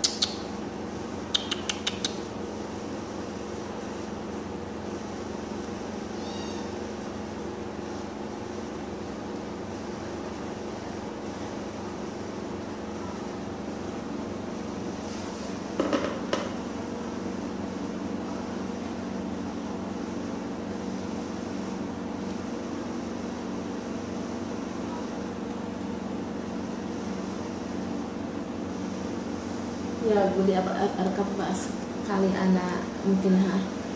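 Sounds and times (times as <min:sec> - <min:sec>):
steady mechanical hum: 0:00.0 - 0:33.9.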